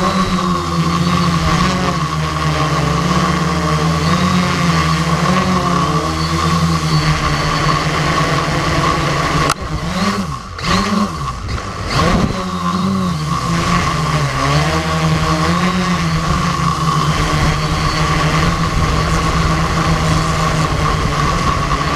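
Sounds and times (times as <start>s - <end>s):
drone propellers whining: 0.0s - 21.9s.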